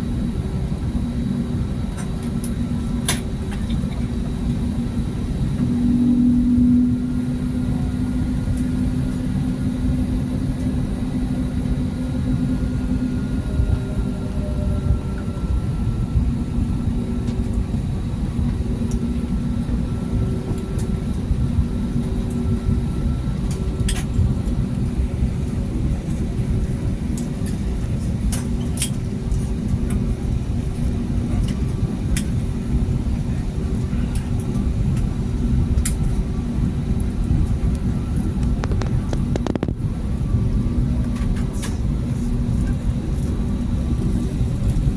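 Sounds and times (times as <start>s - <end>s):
aircraft cabin engine rumble: 0.0s - 44.9s.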